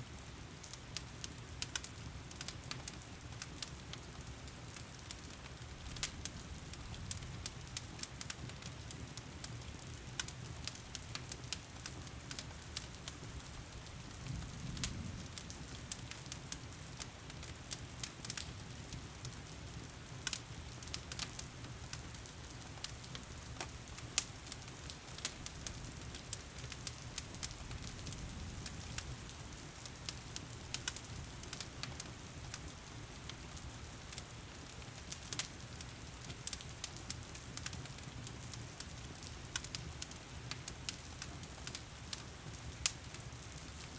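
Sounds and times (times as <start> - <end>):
wood fire crackling and popping: 0.1 - 43.9.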